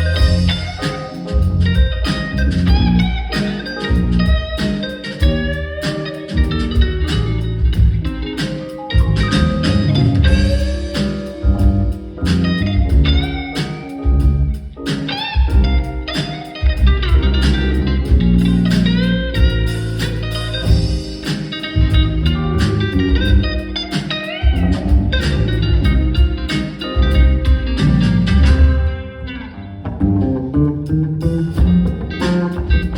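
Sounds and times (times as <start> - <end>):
drums: 0.0 - 29.2, 29.8 - 32.9
bass guitar: 0.0 - 32.9
electric guitar lead: 0.0 - 32.9.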